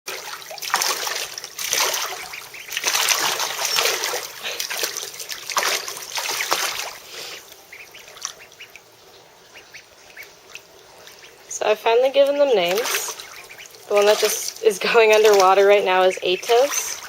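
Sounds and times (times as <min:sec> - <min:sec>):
ducklings splashing in water: 0:00.1 - 0:17.0.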